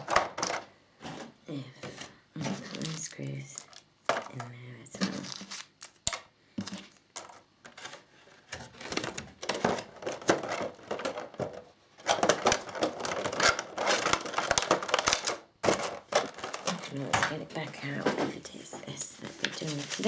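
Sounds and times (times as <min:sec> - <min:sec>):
small plastic parts clicking and rattling: 0:00.0 - 0:00.7, 0:02.4 - 0:18.3.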